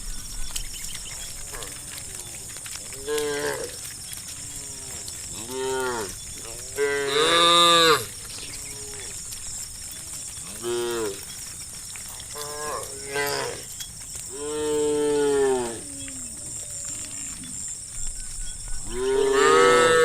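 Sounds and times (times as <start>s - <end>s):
cows mooing: 0.4s - 11.5s, 12.1s - 17.8s, 18.8s - 20.0s.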